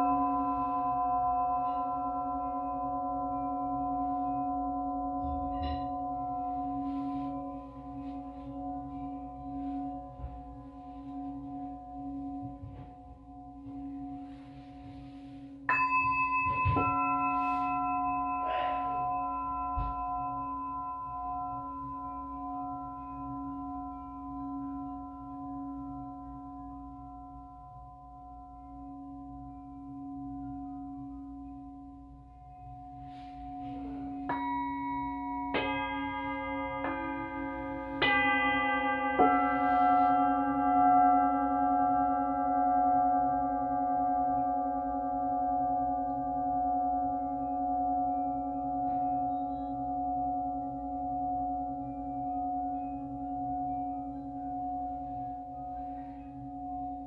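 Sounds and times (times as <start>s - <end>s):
higher singing bowl struck: 0.0s - 14.8s, 15.6s - 27.6s, 28.5s - 57.0s
low singing bowl humming: 0.0s - 57.0s.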